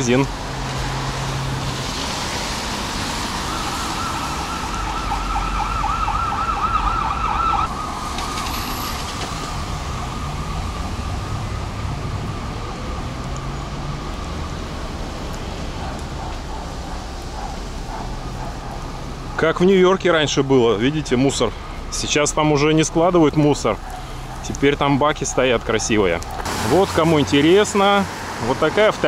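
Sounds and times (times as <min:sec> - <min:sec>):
street traffic noise: 0:00.0 - 0:29.0
emergency siren warbling: 0:02.8 - 0:28.0.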